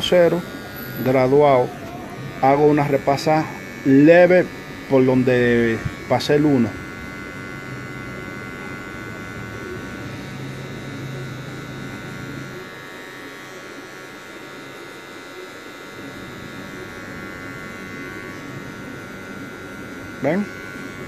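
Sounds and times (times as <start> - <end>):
electric hair clipper buzzing: 0.0 - 21.0.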